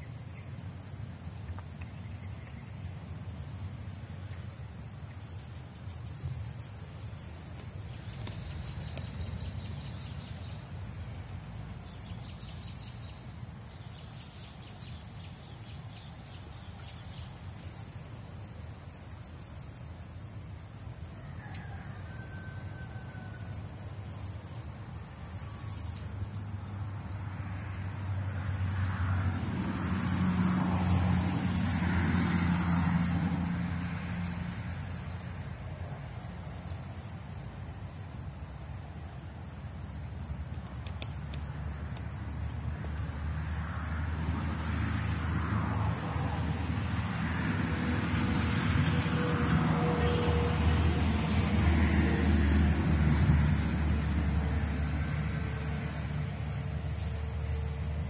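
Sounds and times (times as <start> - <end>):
insects chorus: 0.0 - 58.0.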